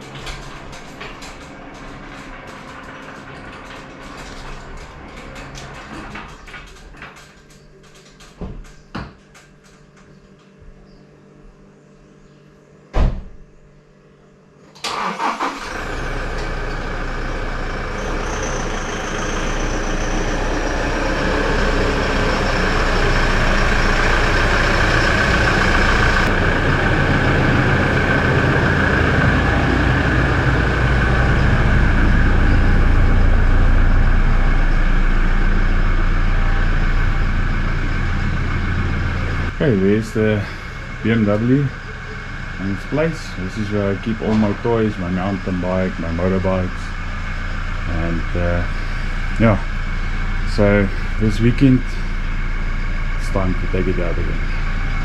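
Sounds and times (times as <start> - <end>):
vehicle engine starting and running: 0.0 - 8.8, 14.8 - 55.0.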